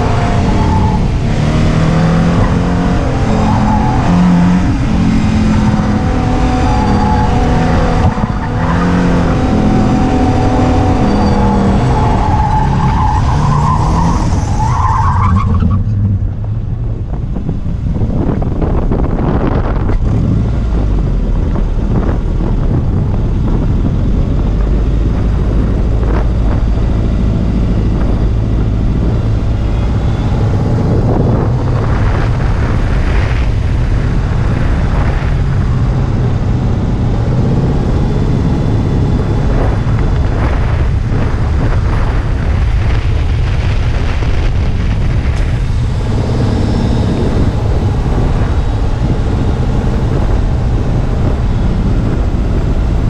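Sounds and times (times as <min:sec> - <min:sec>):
car engine revving: 0:00.0 - 0:53.0
wind rumble on microphone: 0:00.0 - 0:53.0.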